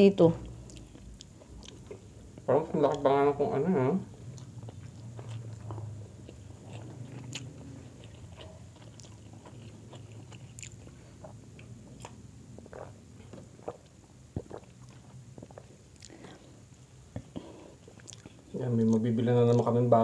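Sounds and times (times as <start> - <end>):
chewing food: 0.4 - 3.1, 4.1 - 20.0.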